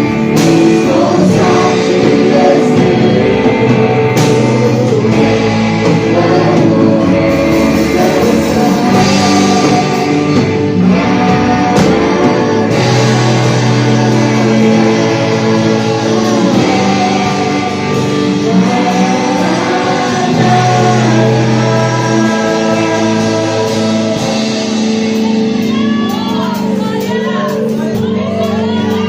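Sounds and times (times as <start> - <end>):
held guitar chords: 0.0 - 29.0
steady bass line: 0.0 - 29.0.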